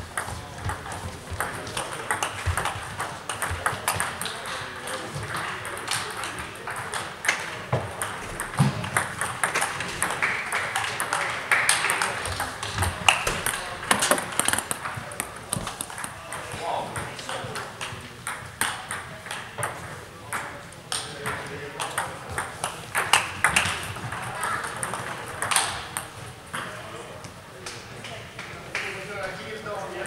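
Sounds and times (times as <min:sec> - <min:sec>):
table tennis balls clicking: 0:00.1 - 0:04.5, 0:05.2 - 0:26.1.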